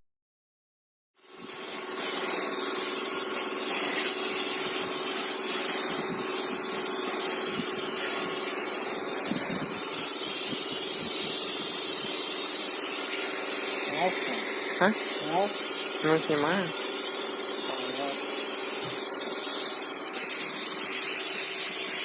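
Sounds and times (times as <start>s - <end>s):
loud steady hiss: 1.2s - 22.0s.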